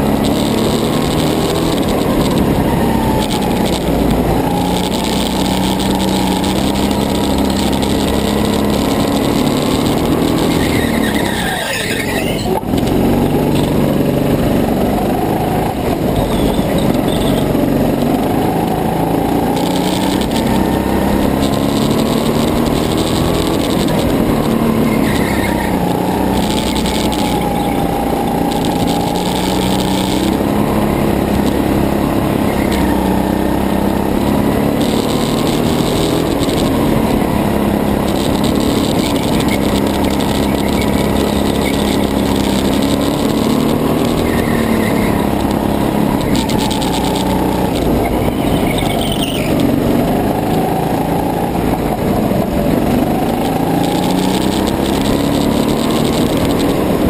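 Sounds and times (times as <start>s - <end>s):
go-kart engine racing: 0.0s - 57.0s.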